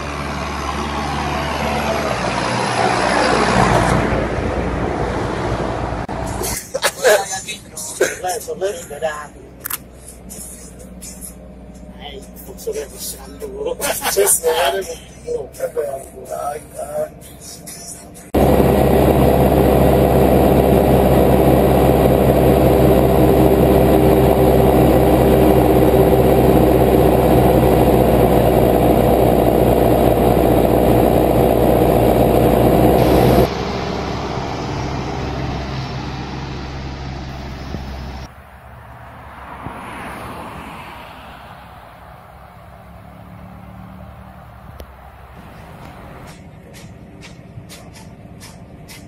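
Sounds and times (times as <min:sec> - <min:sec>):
tractor diesel engine running: 0:00.0 - 0:39.2, 0:41.8 - 0:49.0
distant tractor passing: 0:00.0 - 0:49.0.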